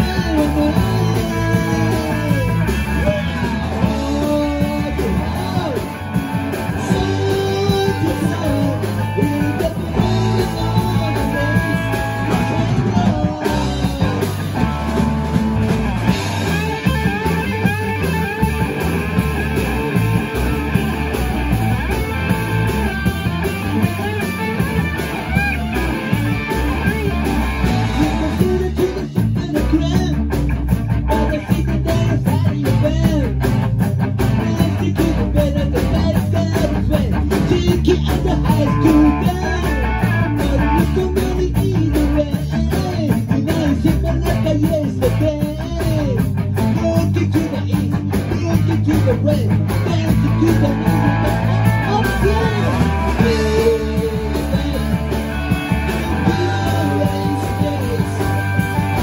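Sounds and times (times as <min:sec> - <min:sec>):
bass guitar: 0:00.0 - 0:59.0
drums: 0:00.0 - 0:59.0
electric guitars: 0:00.0 - 0:59.0
man singing: 0:00.0 - 0:59.0.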